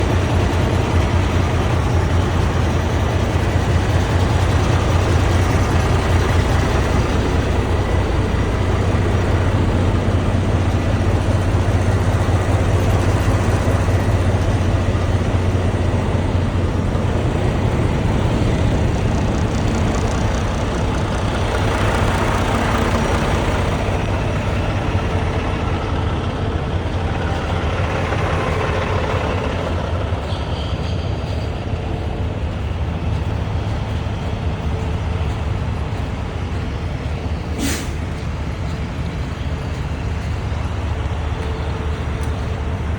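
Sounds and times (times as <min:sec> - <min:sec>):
large vehicle engine idling: 0:00.0 - 0:42.9.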